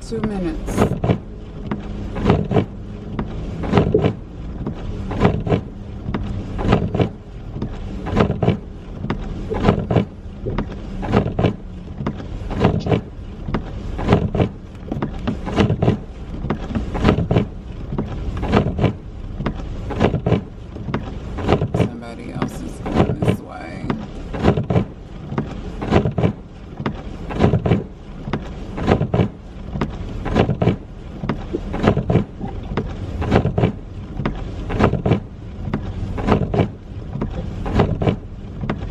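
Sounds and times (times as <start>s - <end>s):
engine and road hum: 0.0s - 38.9s.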